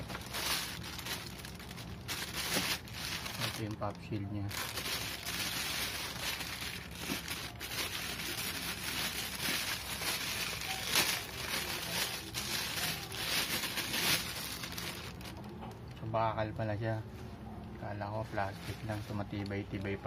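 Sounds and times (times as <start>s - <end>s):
plastic bag crinkling: 0.0s - 15.7s, 18.3s - 20.0s.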